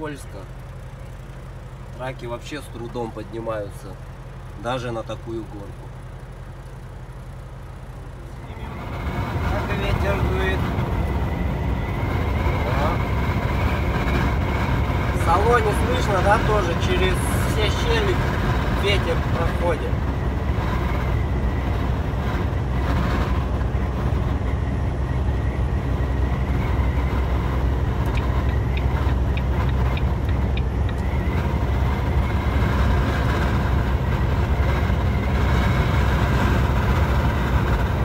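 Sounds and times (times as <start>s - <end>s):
truck engine rumble: 0.0s - 38.0s.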